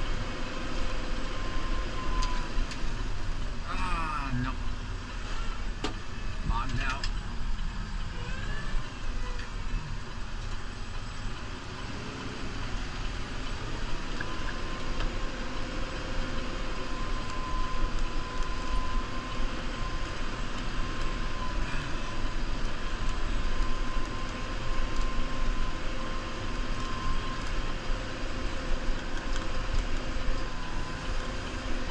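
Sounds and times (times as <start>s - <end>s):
steady whine: 0.0s - 31.9s
tractor diesel engine under load: 0.0s - 31.9s.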